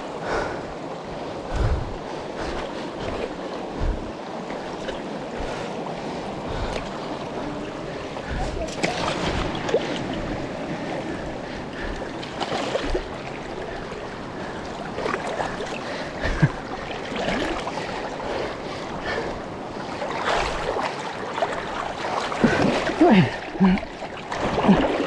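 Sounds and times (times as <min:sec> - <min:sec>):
river water rushing: 0:00.0 - 0:25.0
water splashes: 0:00.0 - 0:25.0.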